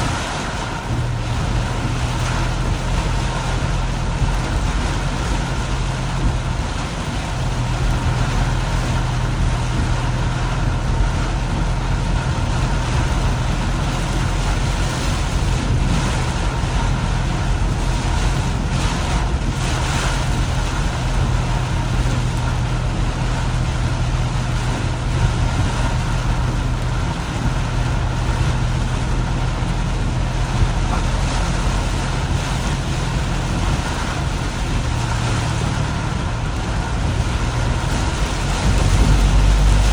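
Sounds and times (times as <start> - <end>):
car engine and road noise: 0.0 - 39.9
rain and tyre spray hiss: 0.0 - 39.9.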